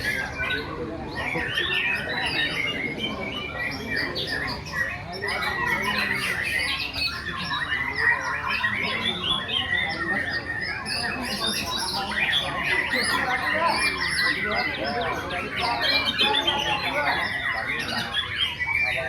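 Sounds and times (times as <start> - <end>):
birds chirping and whistling: 0.0 - 19.0.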